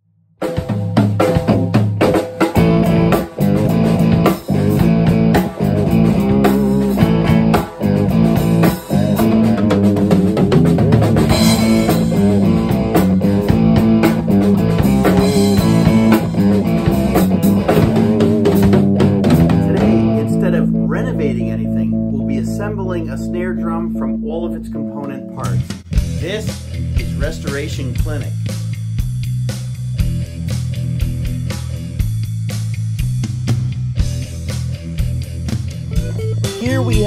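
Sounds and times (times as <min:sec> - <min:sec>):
drum kit with cymbals: 0:00.4 - 0:21.6, 0:25.4 - 0:37.0
guitar and bass backing: 0:00.9 - 0:37.0.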